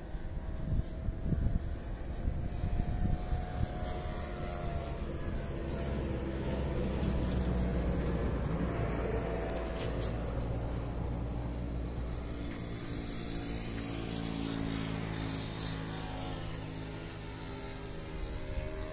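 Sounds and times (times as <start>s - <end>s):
model plane engine drone: 0.0s - 18.9s.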